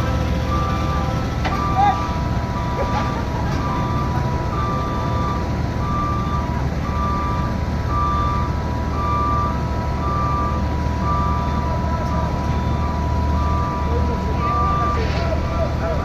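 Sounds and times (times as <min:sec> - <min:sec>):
reversing alarm beeping: 0:00.0 - 0:15.8
skid steer engine running: 0:00.0 - 0:16.0.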